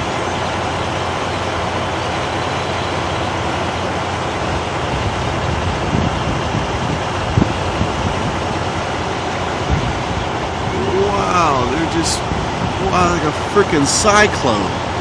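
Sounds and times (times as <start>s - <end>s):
traffic noise: 0.0s - 15.0s
vehicle engine hum: 0.0s - 15.0s.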